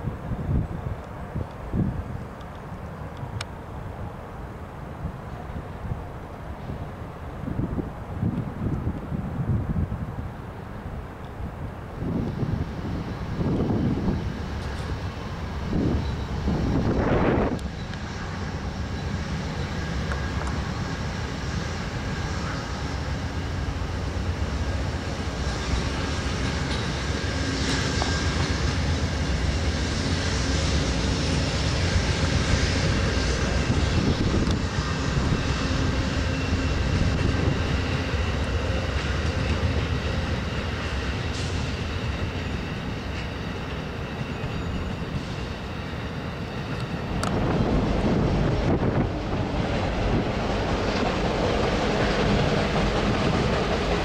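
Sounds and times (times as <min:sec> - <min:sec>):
diesel locomotive engine rumble: 0:00.0 - 0:54.0
train cars rolling on rails: 0:00.0 - 0:54.0
wind gusts on microphone: 0:00.0 - 0:54.0.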